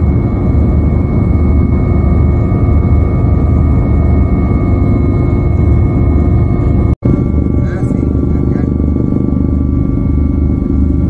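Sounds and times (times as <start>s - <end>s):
aircraft engine drone in cabin: 0.0s - 11.0s.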